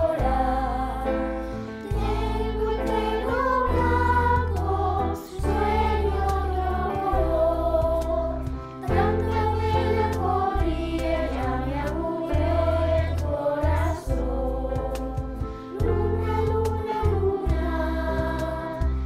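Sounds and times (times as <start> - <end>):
children's choir singing: 0.0 - 19.0
low bass notes: 0.0 - 19.0.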